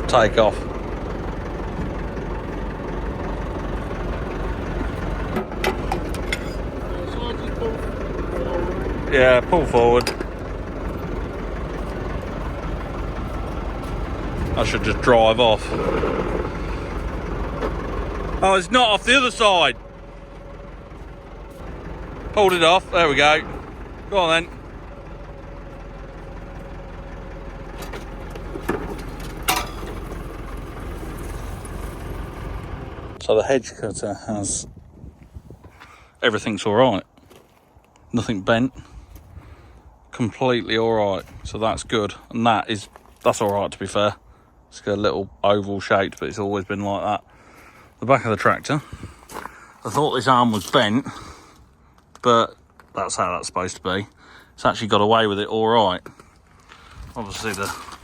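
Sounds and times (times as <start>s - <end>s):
tractor diesel engine idling: 0.0s - 34.6s, 38.2s - 58.0s.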